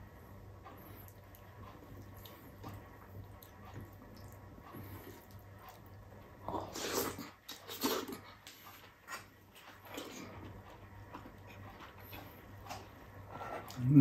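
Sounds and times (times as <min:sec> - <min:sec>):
soft chewing and smacking: 0:00.0 - 0:14.0.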